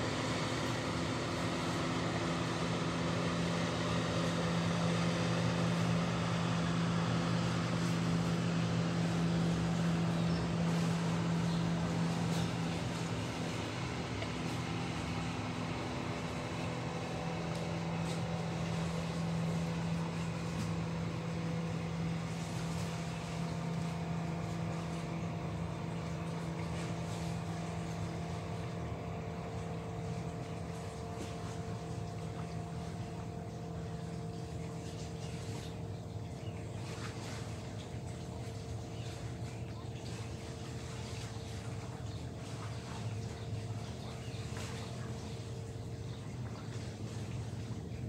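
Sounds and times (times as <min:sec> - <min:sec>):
engine humming: 0:00.0 - 0:48.0.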